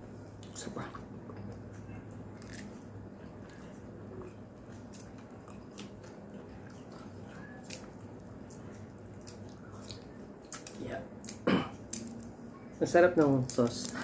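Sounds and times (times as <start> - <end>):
steady low hum: 0.0 - 14.0
person chewing: 0.4 - 12.3.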